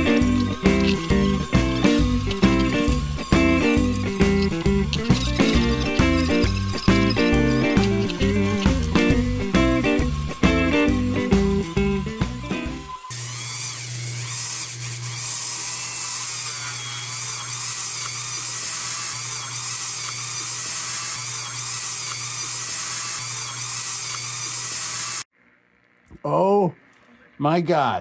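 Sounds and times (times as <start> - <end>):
rotary tool polishing metal: 0.0 - 25.3.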